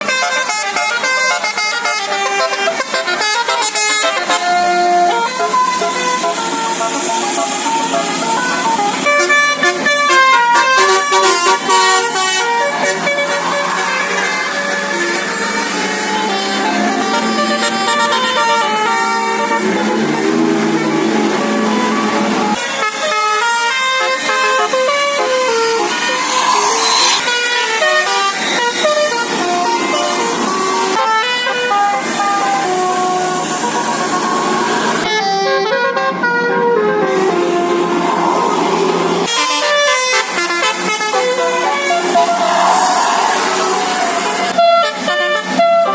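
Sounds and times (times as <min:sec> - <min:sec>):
melodic bus horn: 0:00.0 - 0:45.9.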